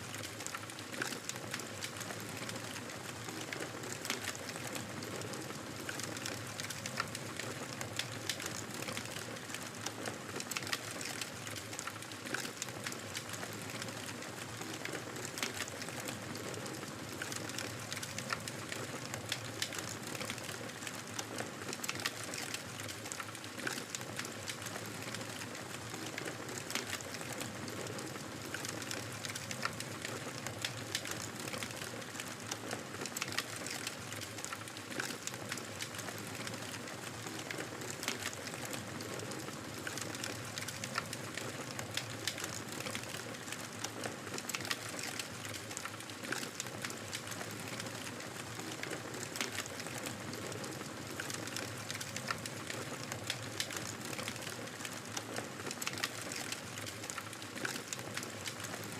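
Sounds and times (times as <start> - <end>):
wood fire crackling: 0.1 - 58.9.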